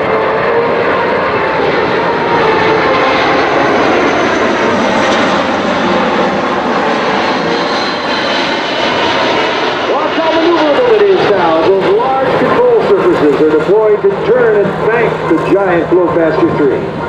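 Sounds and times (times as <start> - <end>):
faint engine whine: 0.0 - 17.0
jet aircraft flying past: 0.0 - 17.0.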